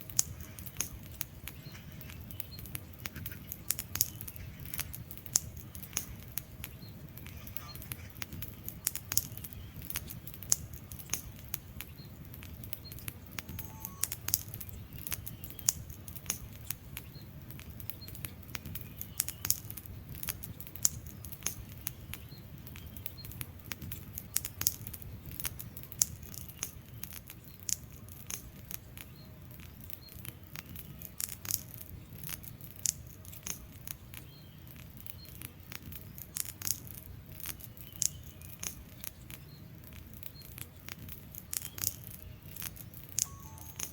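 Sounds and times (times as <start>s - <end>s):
logs crackling in fireplace: 0.0s - 43.9s.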